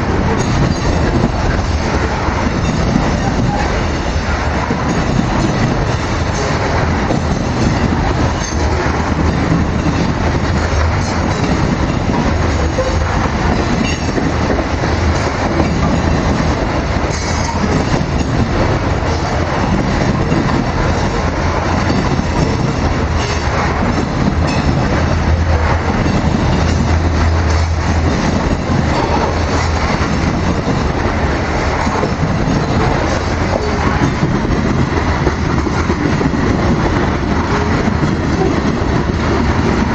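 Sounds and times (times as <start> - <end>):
train cars rumbling: 0.0 - 39.9
wheels clacking over rail joints: 0.0 - 39.9.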